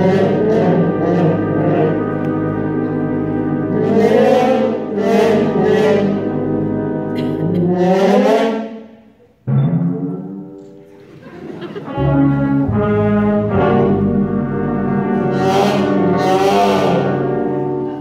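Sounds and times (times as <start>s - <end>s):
concert band playing: 0.0s - 8.8s, 9.4s - 18.0s
low brass: 0.0s - 10.4s, 11.8s - 18.0s.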